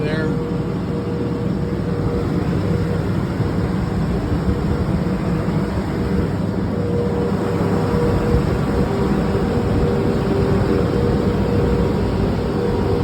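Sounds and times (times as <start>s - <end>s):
airport machinery rumble: 0.0s - 13.0s
thin steady whine: 0.0s - 13.0s.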